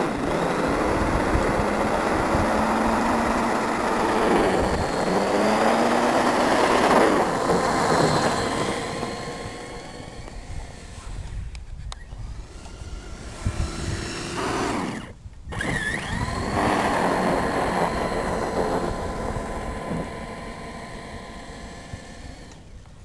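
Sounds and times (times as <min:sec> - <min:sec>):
electric motor whining: 0:00.0 - 0:22.9.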